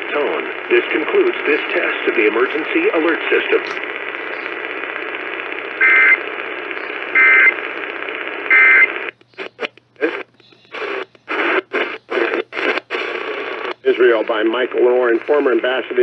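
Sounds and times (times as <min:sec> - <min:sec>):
radio static: 0:00.0 - 0:16.0.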